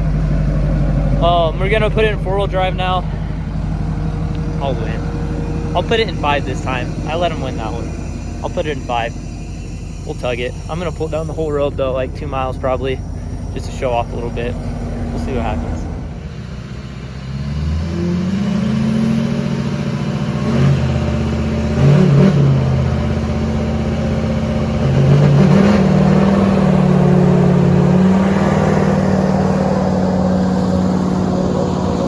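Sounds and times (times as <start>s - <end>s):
diesel engines revving hard: 0.0s - 32.0s.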